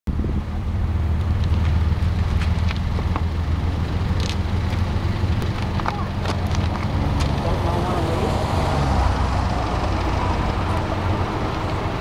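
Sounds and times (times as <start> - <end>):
low engine drone: 0.1 - 12.0.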